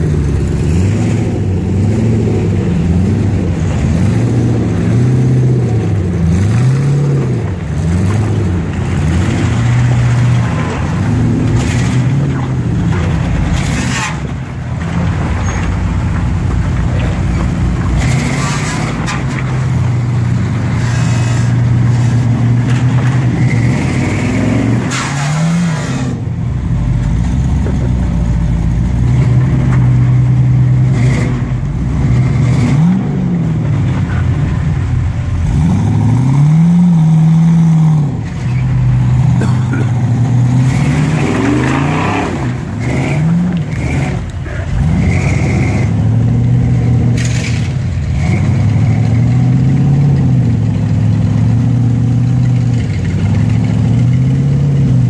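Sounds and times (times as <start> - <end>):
suv engine revving: 0.0 - 55.0.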